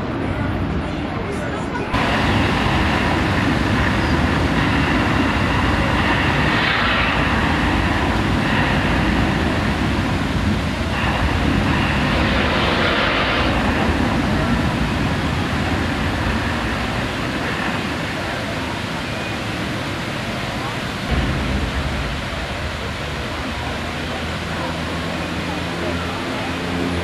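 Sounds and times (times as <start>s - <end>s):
deep loud rumbling: 2.0s - 27.0s
hissing whoosh of jets: 2.0s - 27.0s.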